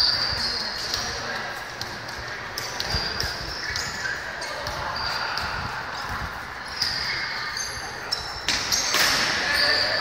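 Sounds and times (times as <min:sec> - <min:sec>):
sneakers squeaking: 0:00.0 - 0:10.0.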